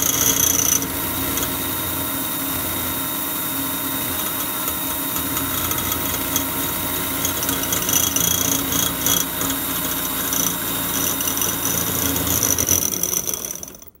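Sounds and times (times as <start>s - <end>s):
electric hand mixer whipping cream: 0.0s - 14.0s.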